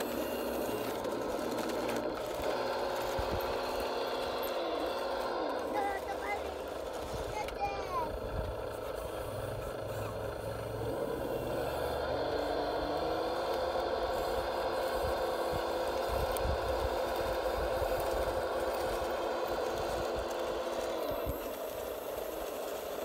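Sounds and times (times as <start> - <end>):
toy bulldozer motor whining: 0.0 - 23.0.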